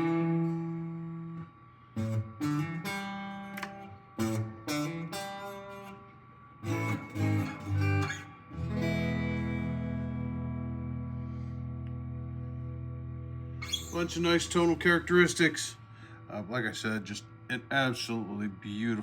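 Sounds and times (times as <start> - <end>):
electric guitar chords and notes: 0.0 - 16.4.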